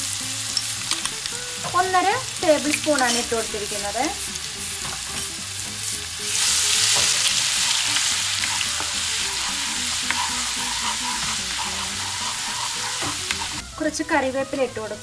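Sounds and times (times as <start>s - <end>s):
paste sizzling in hot oil: 0.0s - 13.8s.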